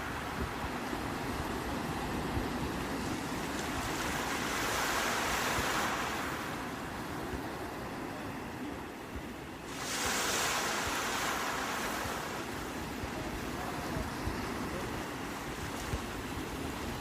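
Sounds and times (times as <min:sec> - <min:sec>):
surf rushing onto shore: 0:00.0 - 0:09.0, 0:09.6 - 0:17.0.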